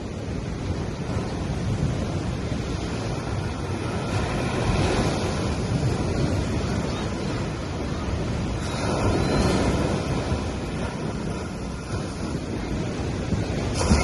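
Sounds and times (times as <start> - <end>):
sea waves breaking on beach: 0.0 - 14.0
wind on microphone: 0.0 - 14.0.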